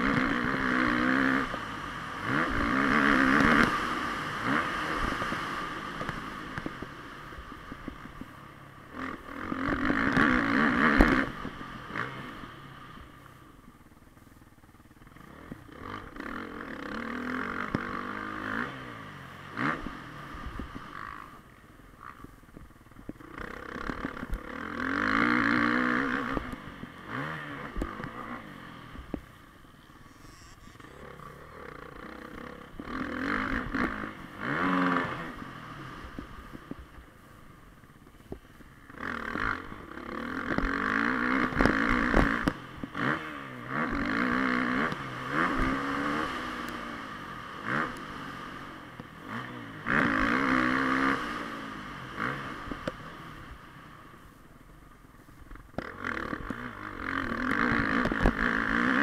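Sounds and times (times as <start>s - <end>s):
motorbike engine revving: 0.0s - 8.2s, 8.9s - 13.2s, 15.0s - 22.4s, 23.2s - 37.0s, 37.8s - 53.9s, 55.5s - 59.0s.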